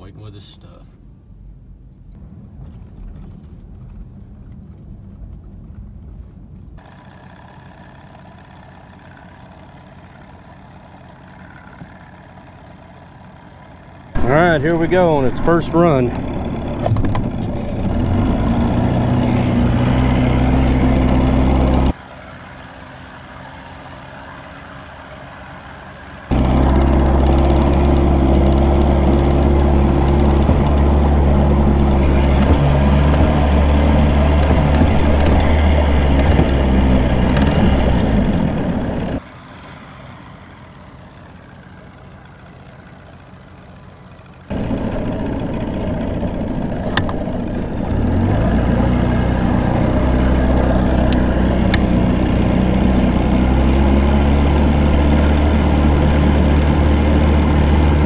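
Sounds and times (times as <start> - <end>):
outboard motor running: 6.8 - 58.0.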